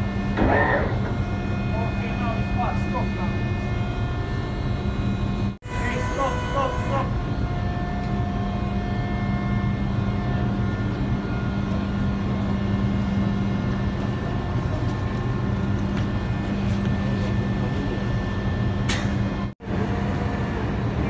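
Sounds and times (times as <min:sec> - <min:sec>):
ship machinery droning: 0:00.0 - 0:21.0.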